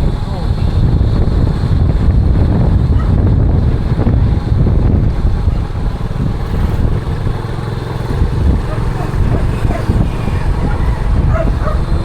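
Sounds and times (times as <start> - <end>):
motorcycle running: 0.0 - 12.0
wind buffeting microphone: 0.0 - 12.0.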